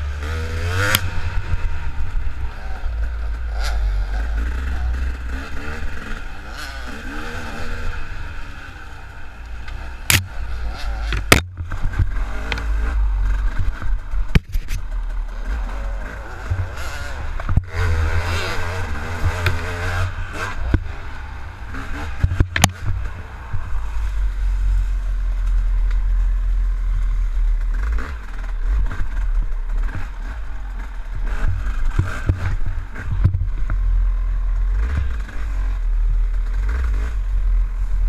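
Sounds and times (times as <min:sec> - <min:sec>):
dirt bike engine revving: 0:00.0 - 0:38.0
heavy low rumble: 0:00.0 - 0:38.0.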